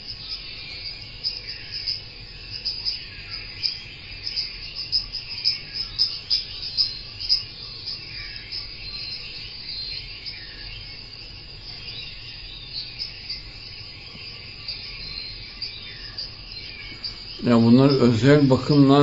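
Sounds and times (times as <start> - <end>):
insects chirping: 0.0 - 19.0
steady high insect buzz: 0.0 - 19.0.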